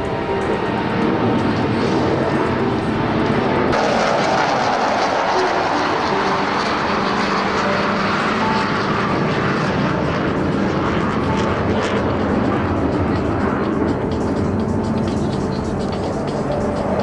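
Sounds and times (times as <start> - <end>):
faint whining tones: 0.0 - 3.8, 5.4 - 17.0
aircraft engines running: 0.0 - 17.0.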